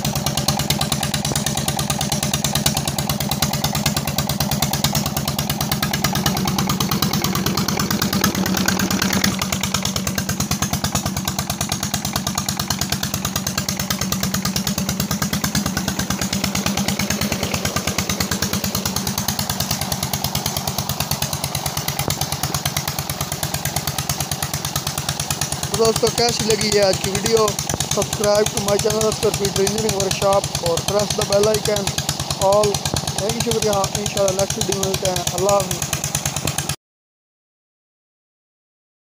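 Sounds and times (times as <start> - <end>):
diesel engine running: 0.0 - 36.8
water gushing from pump: 0.0 - 36.8.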